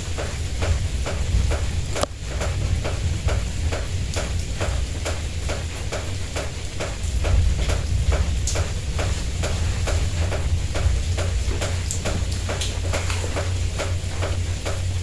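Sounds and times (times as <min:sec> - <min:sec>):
raindrops tapping a surface: 0:00.0 - 0:15.0
steady low rumble: 0:00.0 - 0:15.0.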